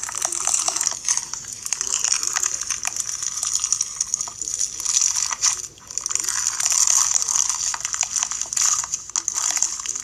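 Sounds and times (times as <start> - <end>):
bead slime crunching and popping: 0.0 - 10.0.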